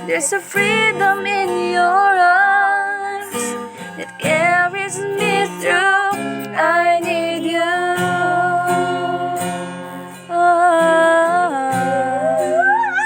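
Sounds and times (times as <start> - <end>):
person singing long notes: 0.0 - 13.0
strummed acoustic guitar: 0.0 - 13.0.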